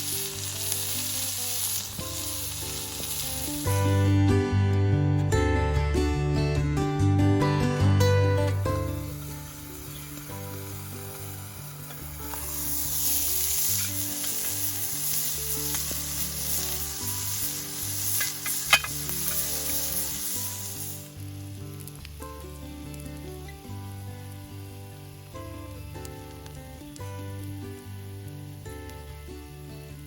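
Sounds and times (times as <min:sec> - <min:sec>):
food sizzling in a frying pan: 0:00.0 - 0:04.2, 0:08.5 - 0:30.0.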